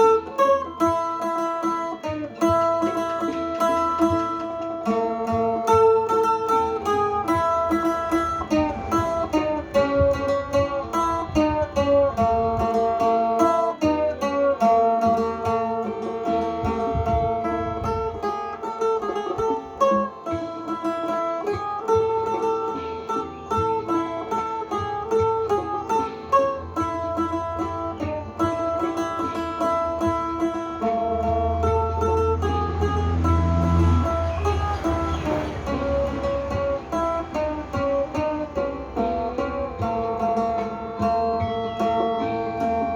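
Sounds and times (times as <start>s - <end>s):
plucked lute melody: 0.0s - 42.9s.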